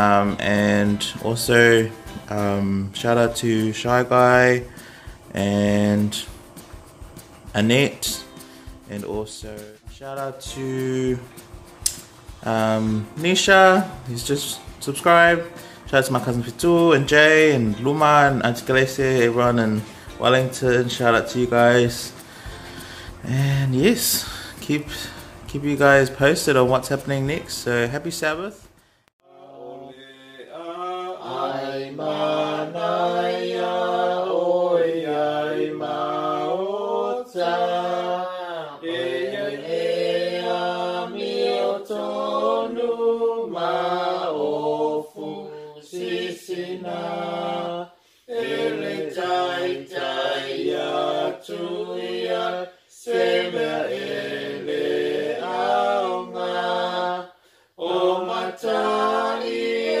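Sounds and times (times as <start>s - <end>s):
voices singing a hymn: 0.0s - 28.2s, 29.2s - 60.0s.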